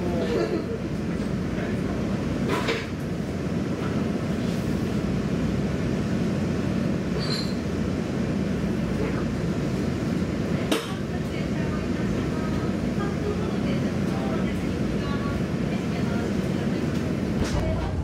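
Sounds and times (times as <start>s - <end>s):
railcar engine and wheels rumbling: 0.0s - 18.0s.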